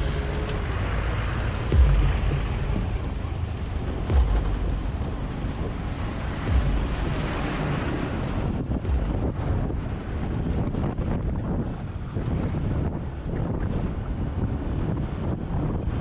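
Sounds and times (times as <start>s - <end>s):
low rumble of vehicle noise: 0.0s - 16.0s
low thumps of wind: 0.0s - 16.0s
wind buffeting microphone: 0.0s - 16.0s.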